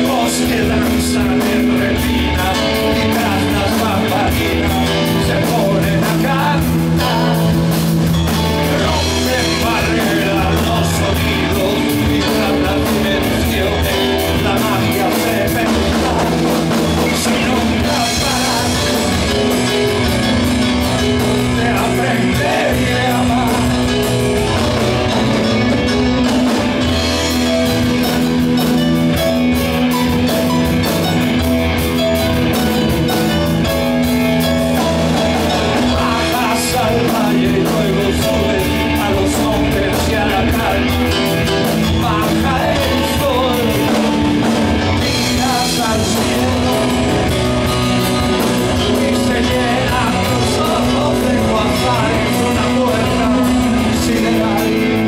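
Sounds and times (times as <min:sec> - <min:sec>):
drum kit: 0:00.0 - 0:55.0
live rock band: 0:00.0 - 0:55.0
man singing: 0:00.0 - 0:55.0
synthesizer chords: 0:00.0 - 0:55.0.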